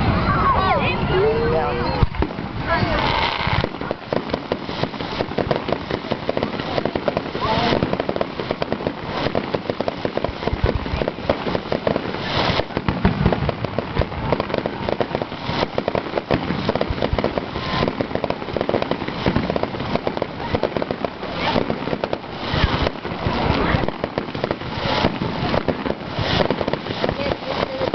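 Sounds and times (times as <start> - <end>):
fireworks crackling and popping: 0.0 - 27.9.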